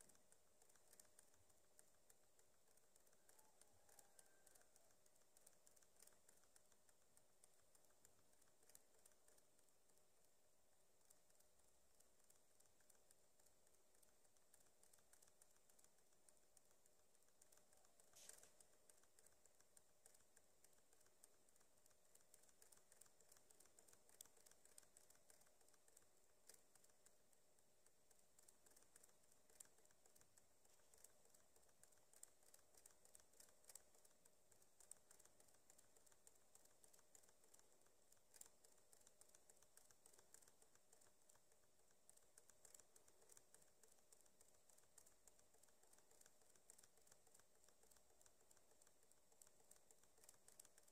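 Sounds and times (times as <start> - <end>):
small irregular clicks: 0.0 - 50.9.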